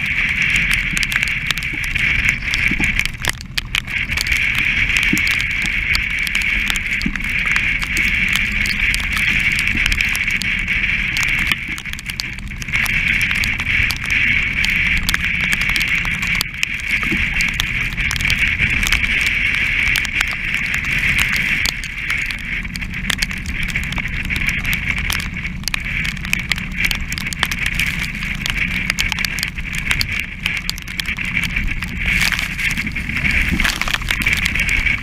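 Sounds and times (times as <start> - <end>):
boat rumbling through rough sea: 0.0 - 35.0
strong wind buffeting: 0.0 - 35.0.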